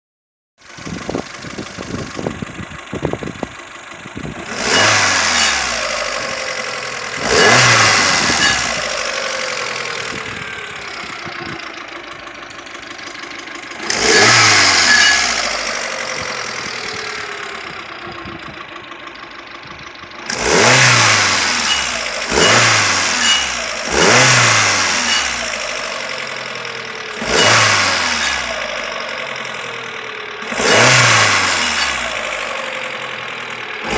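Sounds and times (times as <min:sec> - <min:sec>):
car engine revving: 0:00.7 - 0:19.5, 0:20.2 - 0:33.9.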